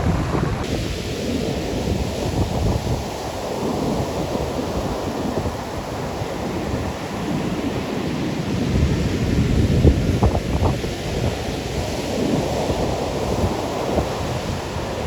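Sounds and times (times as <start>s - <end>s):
ocean surf washing onto beach: 0.0s - 15.0s
wind rumbling on microphone: 0.0s - 15.0s.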